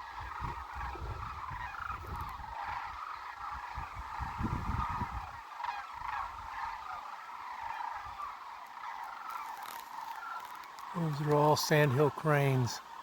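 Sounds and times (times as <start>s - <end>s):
cranes calling: 0.0s - 13.0s.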